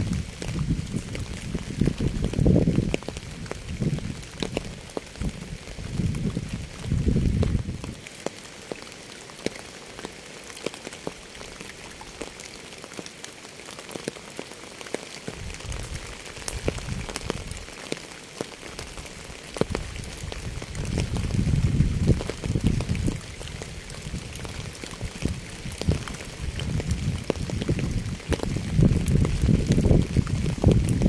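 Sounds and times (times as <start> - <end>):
rain drops ticking on surface: 0.0 - 31.0.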